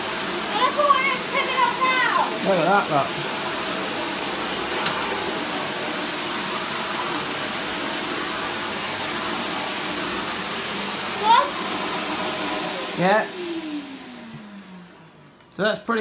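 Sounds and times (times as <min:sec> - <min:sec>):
vacuum cleaner on thick rug: 0:00.0 - 0:16.0.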